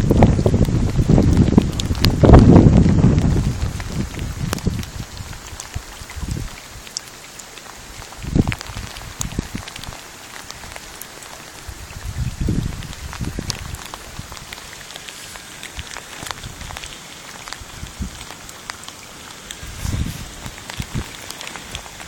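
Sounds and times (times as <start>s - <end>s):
raindrops ticking: 0.0s - 22.0s
steady rain: 0.0s - 22.0s.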